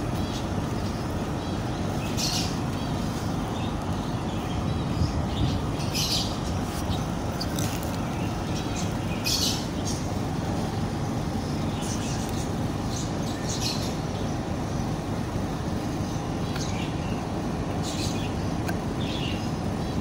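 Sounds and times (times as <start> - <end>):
birds squawking: 0.0 - 20.0
low background rumble: 0.0 - 20.0.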